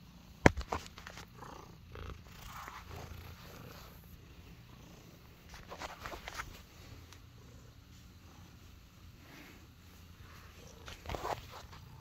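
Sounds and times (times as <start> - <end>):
cat purring: 1.1 - 12.0.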